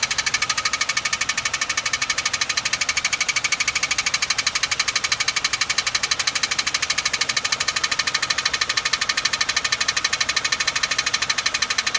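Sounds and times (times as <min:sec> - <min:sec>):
rapid mechanical ticking: 0:00.0 - 0:11.9.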